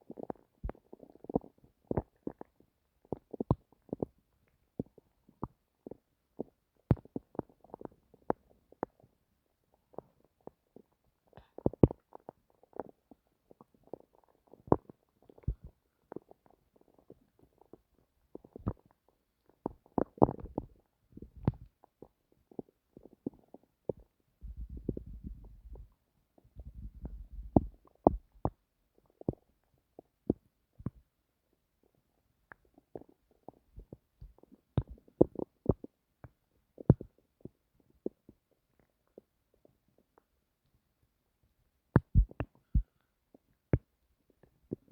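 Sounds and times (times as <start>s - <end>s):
stomach rumbling and gurgling: 0.0s - 41.2s, 41.9s - 44.9s.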